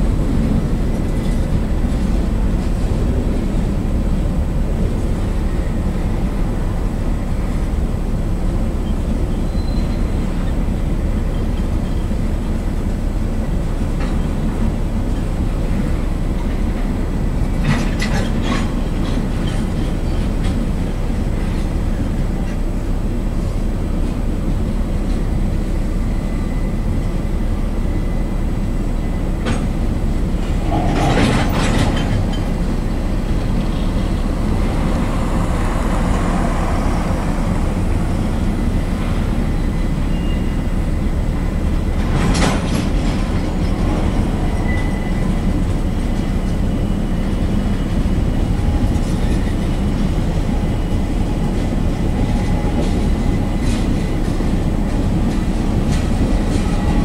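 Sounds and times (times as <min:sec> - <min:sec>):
steel wheels on rail: 0:00.0 - 0:57.0.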